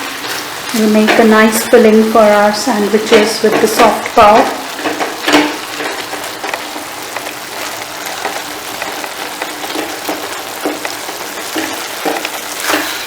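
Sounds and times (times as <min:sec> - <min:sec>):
food sizzling in a pan: 0:00.0 - 0:13.0
spatula scraping and knocking pan: 0:00.2 - 0:13.0.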